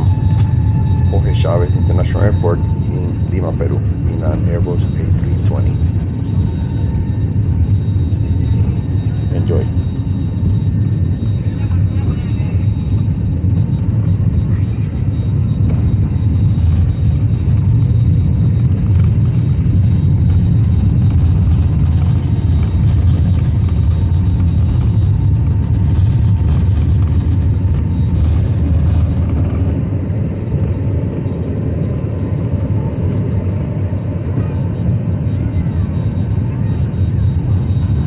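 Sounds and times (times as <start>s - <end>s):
faint steady whine: 0.0s - 38.0s
jet engines rumbling: 0.0s - 38.0s.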